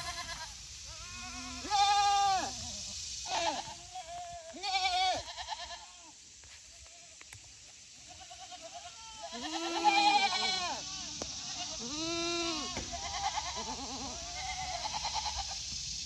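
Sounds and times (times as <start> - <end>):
goats bleating: 0.0 - 6.2, 8.0 - 15.6.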